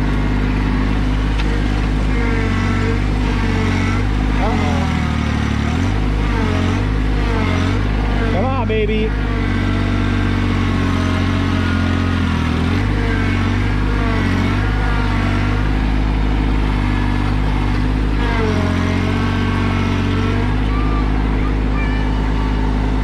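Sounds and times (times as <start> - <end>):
tractor diesel engine tilling: 0.0 - 23.0.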